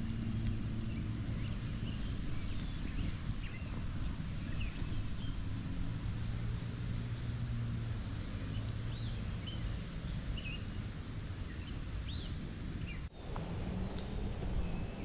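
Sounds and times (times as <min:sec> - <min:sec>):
birds chirping: 0:00.0 - 0:06.3, 0:08.2 - 0:15.0
low outdoor hum: 0:00.0 - 0:15.0.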